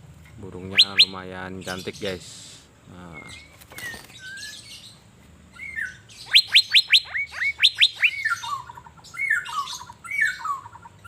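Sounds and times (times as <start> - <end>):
bird whistling song: 0.6 - 2.0, 3.1 - 11.0.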